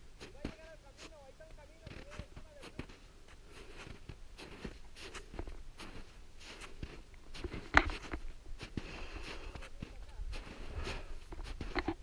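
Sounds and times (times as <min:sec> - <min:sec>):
footsteps crunching in snow: 0:00.0 - 0:12.0
trekking poles planting: 0:00.0 - 0:12.0.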